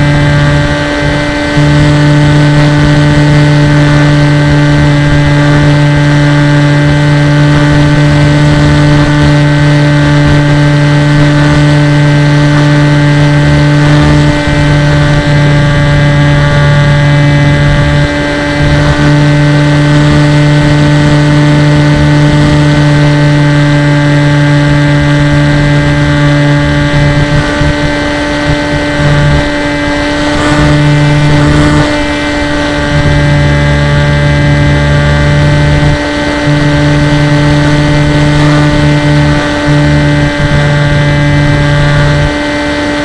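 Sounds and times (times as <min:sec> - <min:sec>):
model aircraft motor hum: 0:00.0 - 0:43.0
wind rushing over microphone: 0:00.0 - 0:43.0.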